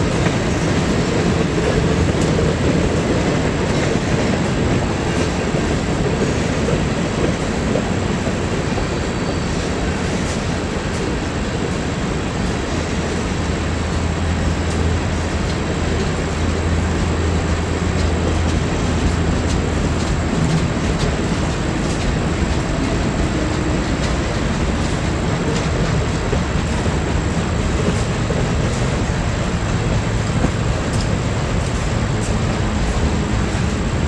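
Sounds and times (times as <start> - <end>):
freight train rumbling past: 0.0 - 34.0.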